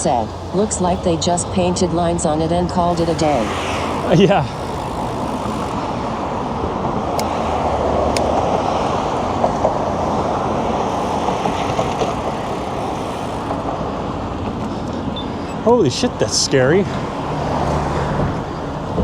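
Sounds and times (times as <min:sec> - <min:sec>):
car traffic passing: 0:00.0 - 0:19.0.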